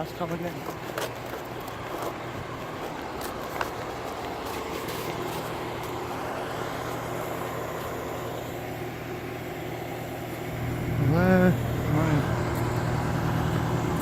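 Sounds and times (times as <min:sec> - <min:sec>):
outdoor noise: 0:00.0 - 0:14.0
vehicle engine idling: 0:00.0 - 0:14.0.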